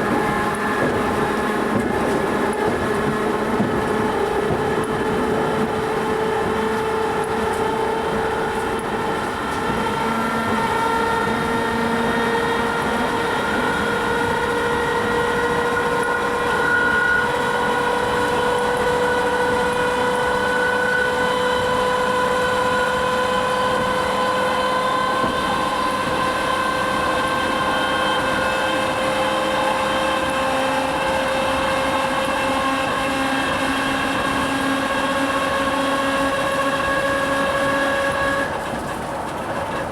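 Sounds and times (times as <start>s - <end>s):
train traction motor whine: 0.0s - 39.9s.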